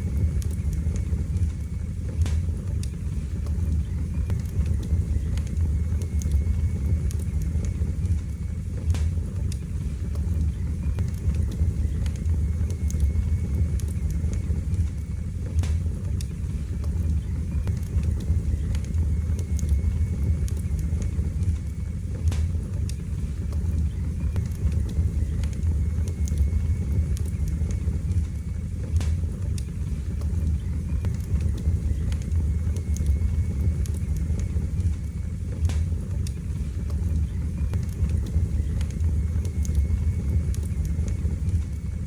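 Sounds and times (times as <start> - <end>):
fire crackles and pops: 0.0 - 42.0
fire flame rumble: 0.0 - 42.0.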